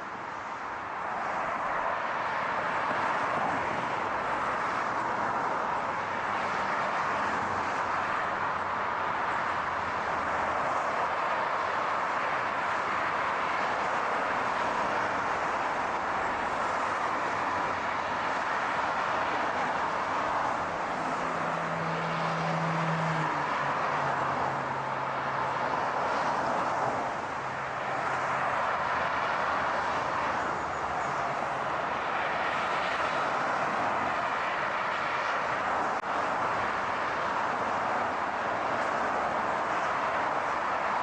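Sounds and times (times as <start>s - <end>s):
car road and engine noise: 0.0s - 41.0s.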